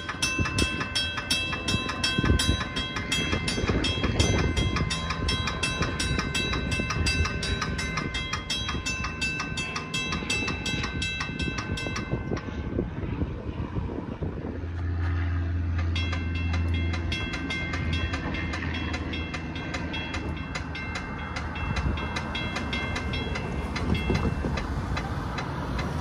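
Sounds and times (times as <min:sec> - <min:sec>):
railroad crossing bell ringing: 0:00.0 - 0:26.0
train rumbling past: 0:00.0 - 0:26.0.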